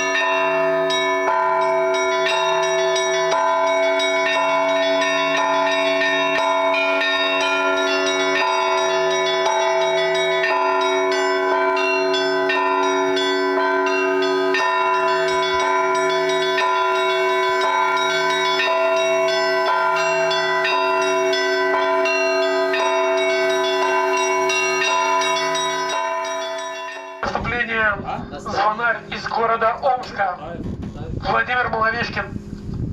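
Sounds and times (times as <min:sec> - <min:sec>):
small bells struck in quick patterns: 0:00.0 - 0:27.4
low bell striking: 0:00.0 - 0:27.6
larger bells ringing: 0:00.0 - 0:30.3.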